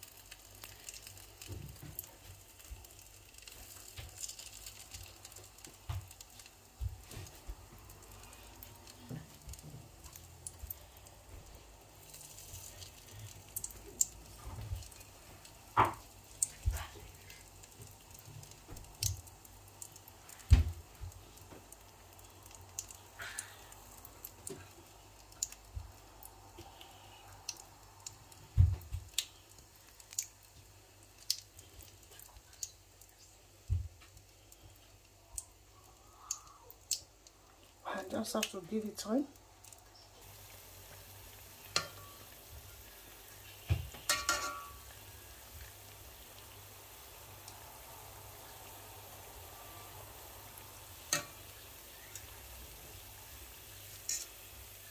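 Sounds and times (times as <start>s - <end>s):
dough frying in hot oil: 0.0s - 54.9s.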